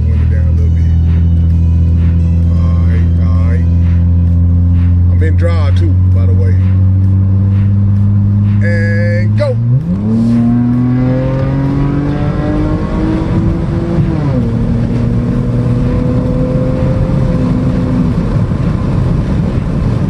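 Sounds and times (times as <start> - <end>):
car engine accelerating: 0.0 - 20.0
road noise: 0.0 - 20.0.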